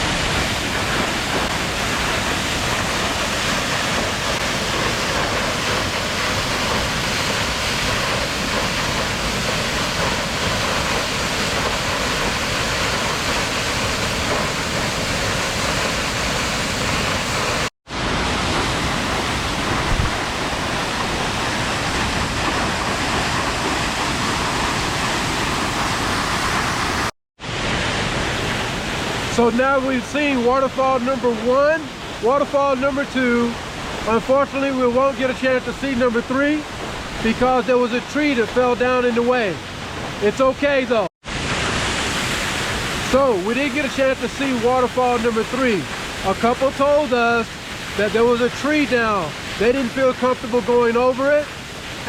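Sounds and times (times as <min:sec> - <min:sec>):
waterfall pouring: 0:00.0 - 0:52.0.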